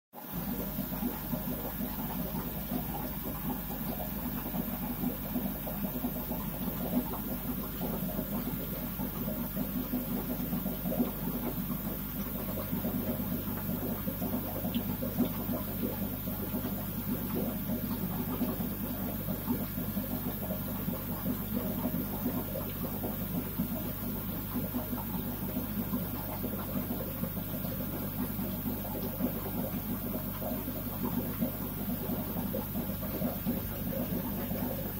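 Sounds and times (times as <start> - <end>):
aquarium equipment humming: 0.2 - 34.9
water churning: 0.3 - 34.9.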